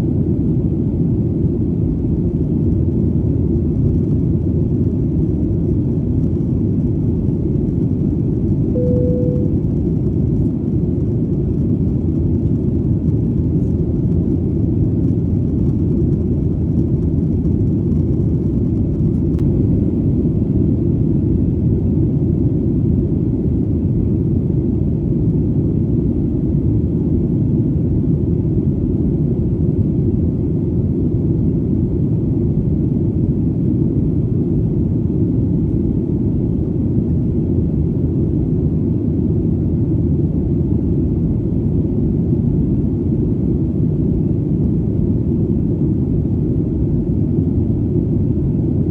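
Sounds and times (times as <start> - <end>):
airplane engine drone: 0.0 - 48.9.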